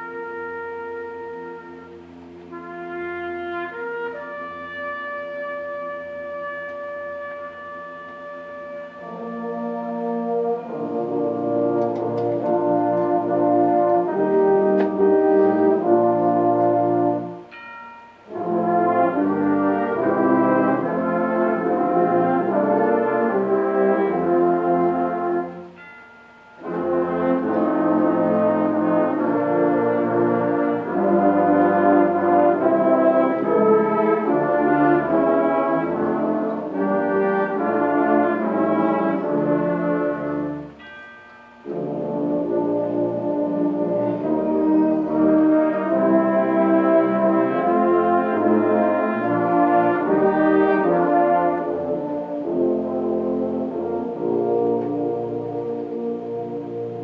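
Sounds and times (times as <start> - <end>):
concert band with brass playing chords: 0.0 - 25.8, 26.6 - 40.9, 41.6 - 57.0.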